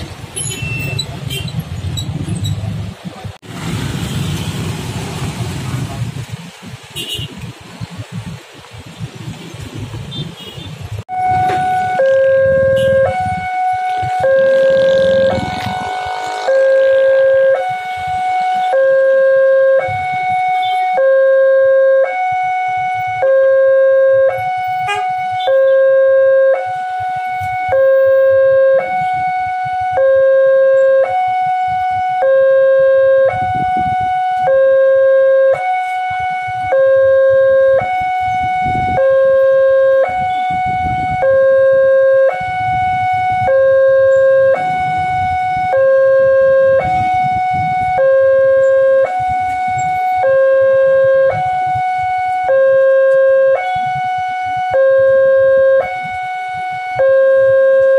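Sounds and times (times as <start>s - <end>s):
road traffic rumbling: 0.0s - 57.9s
level crossing two-tone alarm: 11.1s - 57.9s.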